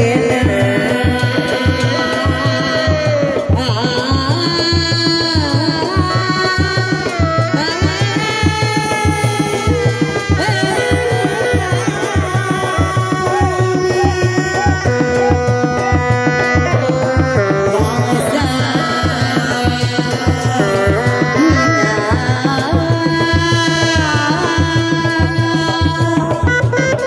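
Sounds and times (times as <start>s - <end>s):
drums beating fast rhythm: 0.0s - 27.0s
held melody bending in pitch: 0.0s - 27.0s.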